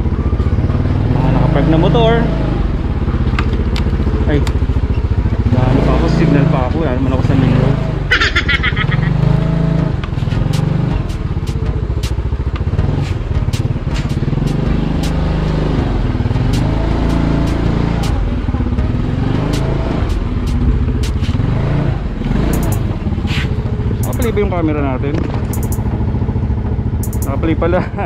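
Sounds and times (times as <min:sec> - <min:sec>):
scooter engine running: 0:00.0 - 0:28.0.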